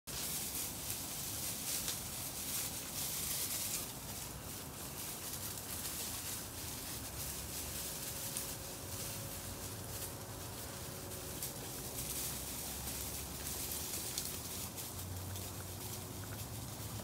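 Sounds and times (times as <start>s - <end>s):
puppies rustling in straw: 0.1s - 17.0s.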